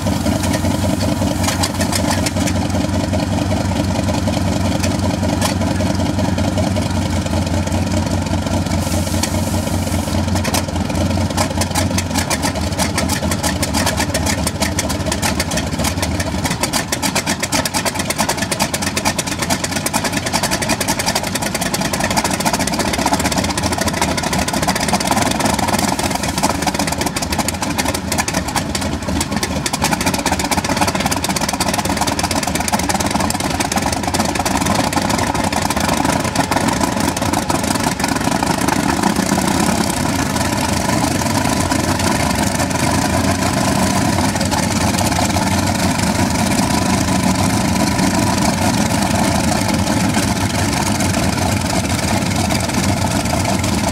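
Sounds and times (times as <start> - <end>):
helicopter piston engines running: 0.0 - 53.9.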